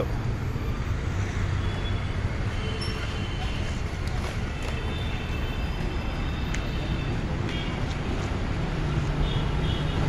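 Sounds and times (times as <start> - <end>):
low rumble of engines and traffic: 0.0 - 10.0.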